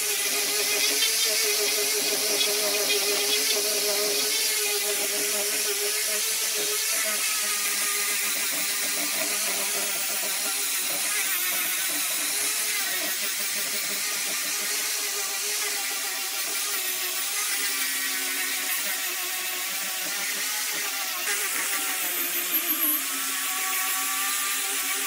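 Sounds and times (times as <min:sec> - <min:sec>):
angle grinder motor whine: 0:00.0 - 0:25.0
sanding disc hissing on wood: 0:00.0 - 0:25.0.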